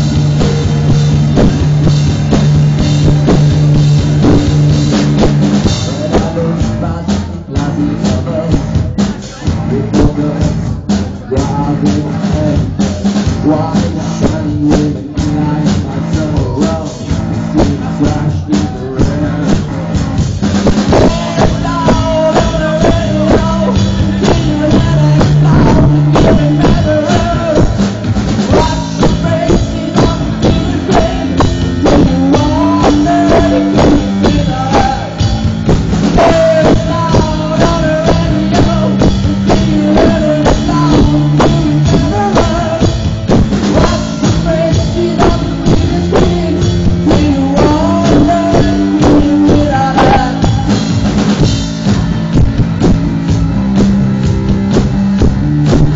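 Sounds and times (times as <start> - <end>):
drum kit beat: 0.0 - 55.9
electric guitar: 0.0 - 55.9
person singing: 2.8 - 53.2.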